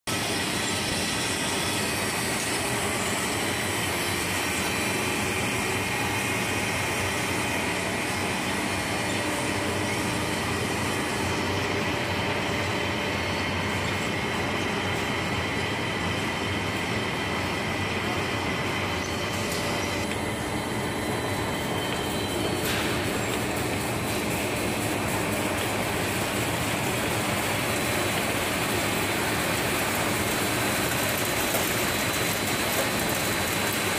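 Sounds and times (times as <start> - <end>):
machinery rattle and hum: 0.1 - 33.9.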